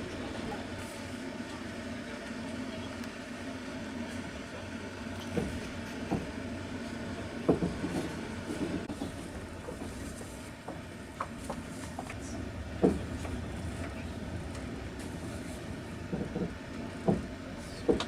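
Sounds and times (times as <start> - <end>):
train carriage low rumble: 0.0 - 18.0.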